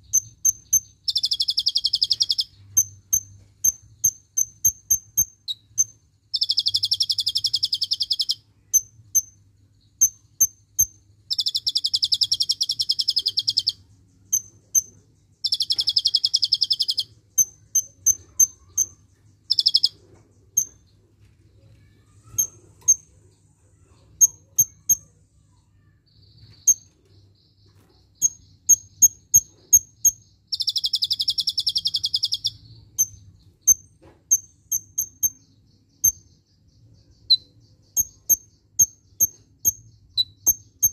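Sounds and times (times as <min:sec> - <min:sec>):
bird chirping and trilling: 0:00.0 - 0:21.0, 0:21.6 - 0:40.9.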